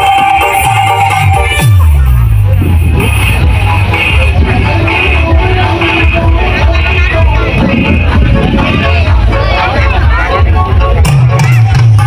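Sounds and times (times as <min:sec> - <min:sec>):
loud bass-heavy music: 0:00.0 - 0:12.0.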